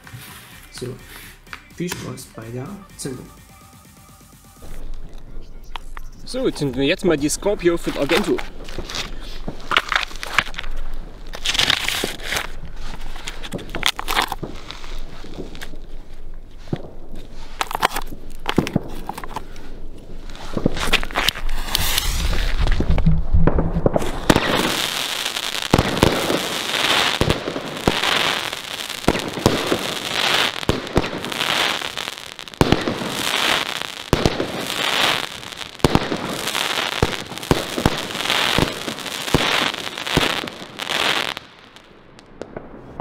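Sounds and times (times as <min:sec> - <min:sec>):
firework crackling: 0:00.0 - 0:43.0
firework bangs: 0:04.6 - 0:19.4, 0:20.1 - 0:43.0.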